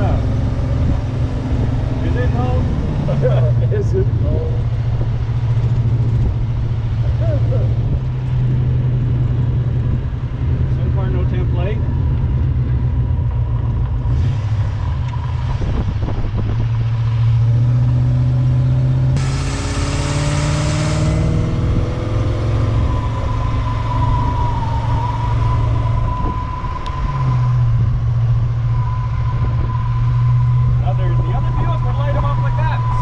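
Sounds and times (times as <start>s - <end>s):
car engine rumbling and revving: 0.0s - 33.0s.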